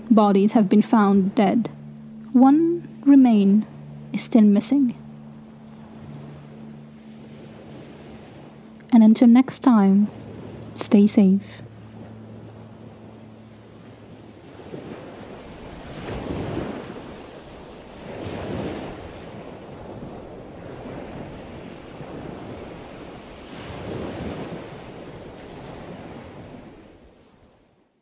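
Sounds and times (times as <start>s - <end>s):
ocean waves washing in: 0.0s - 27.9s.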